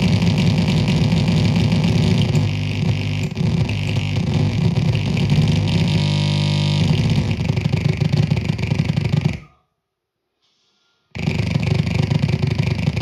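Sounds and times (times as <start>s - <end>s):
buzzing crackling synth noise: 0.0s - 9.4s, 11.2s - 13.0s.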